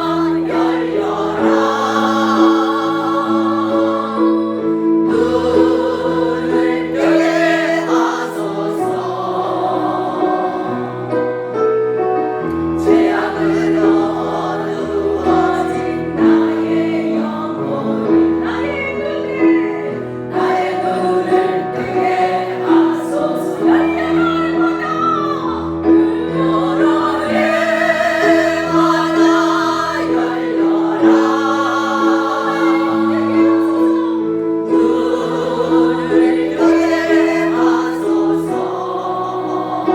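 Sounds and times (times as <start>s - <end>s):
choir singing praise song: 0.0s - 11.6s, 12.5s - 39.9s.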